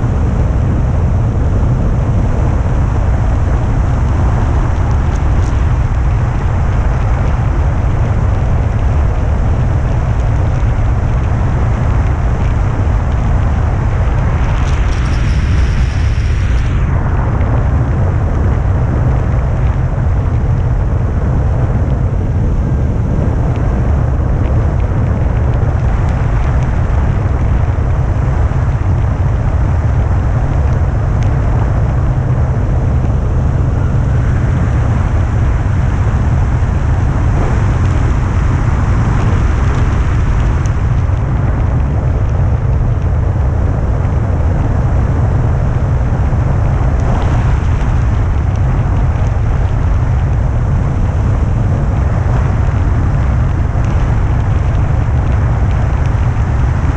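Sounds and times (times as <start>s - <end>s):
wind rumbling over microphone: 0.0s - 56.9s.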